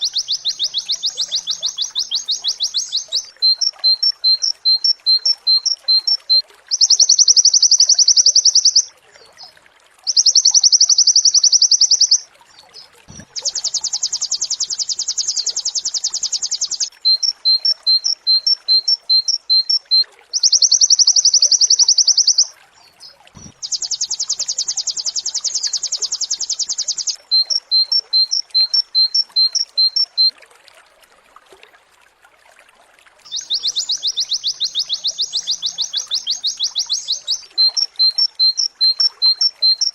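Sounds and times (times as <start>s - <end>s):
bird chirps and fast trills: 0.0s - 9.5s, 10.1s - 12.2s, 12.8s - 30.3s, 33.3s - 39.9s.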